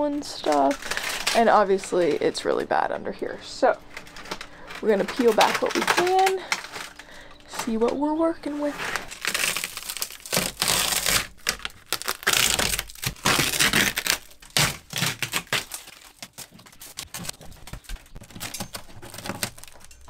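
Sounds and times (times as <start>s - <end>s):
wood paneling tearing and crackling: 0.0s - 20.0s.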